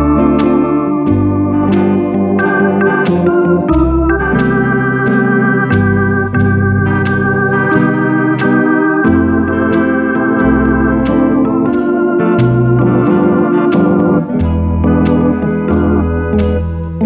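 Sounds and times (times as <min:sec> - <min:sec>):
electronic organ playing jazz: 0:00.0 - 0:17.0
rhythm accompaniment beats: 0:00.0 - 0:17.0.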